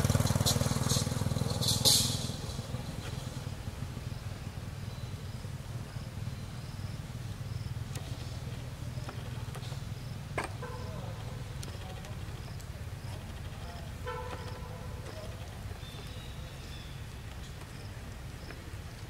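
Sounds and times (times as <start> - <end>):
insect chirping: 0.7 - 19.0.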